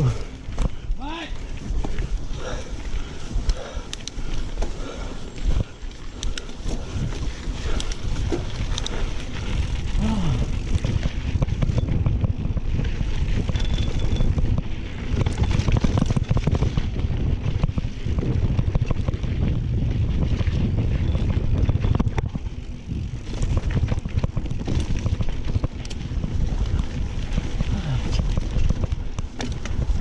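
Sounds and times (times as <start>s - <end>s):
bike rattling and knocking: 0.0s - 30.0s
tyres rumbling on dirt: 0.0s - 30.0s
wind buffeting microphone: 0.0s - 30.0s.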